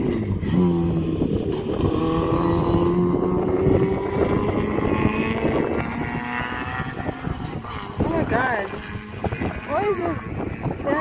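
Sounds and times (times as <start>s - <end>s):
racing car engines at full throttle: 0.0s - 11.0s.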